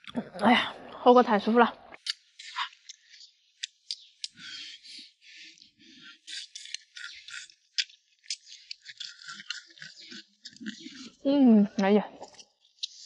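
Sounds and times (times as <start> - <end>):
wet chewing and slurping: 1.9 - 13.0.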